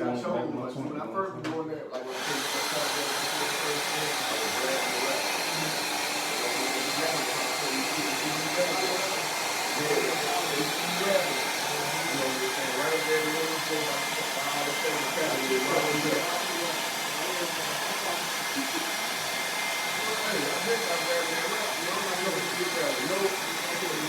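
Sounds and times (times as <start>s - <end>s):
faint indistinct talk: 0.0s - 24.0s.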